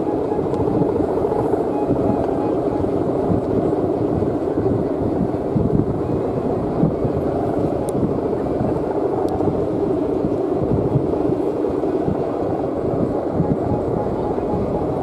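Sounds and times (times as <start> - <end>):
kite hummer droning: 0.0 - 15.0
wind on microphone: 0.0 - 15.0.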